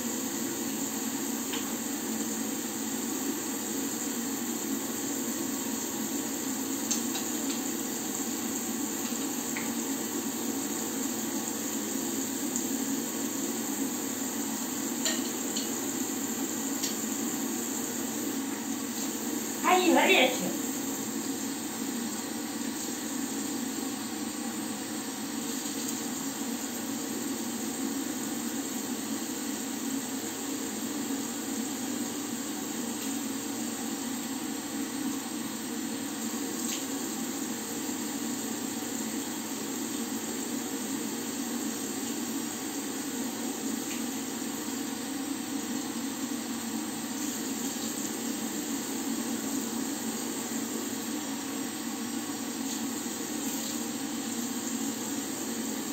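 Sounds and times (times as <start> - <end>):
tap water running into washbasin: 0.0 - 55.9.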